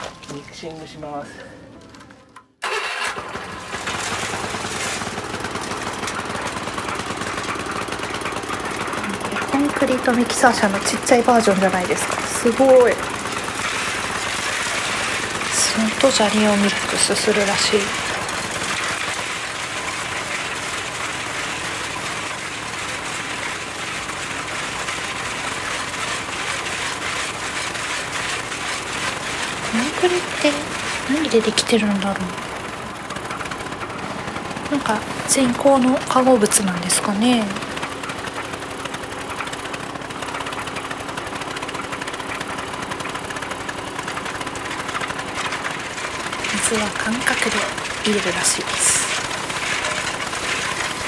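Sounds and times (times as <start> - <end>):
concrete mixer tumbling gravel: 0.0 - 2.2, 3.1 - 51.0
petrol engine running: 0.0 - 51.0.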